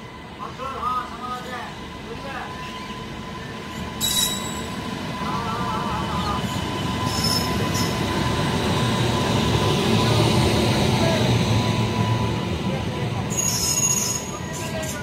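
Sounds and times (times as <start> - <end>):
train wheels rumbling on rails: 2.3 - 15.0.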